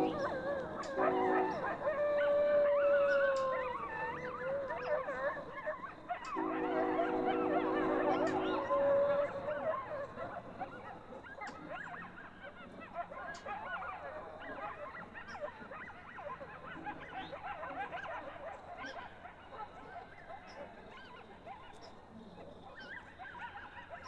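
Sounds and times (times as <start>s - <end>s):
coyotes yipping and howling: 0.0s - 24.0s.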